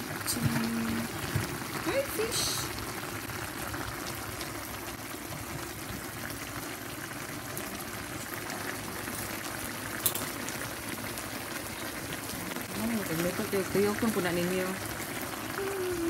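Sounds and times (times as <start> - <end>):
sauce simmering in a frying pan: 0.0 - 16.0.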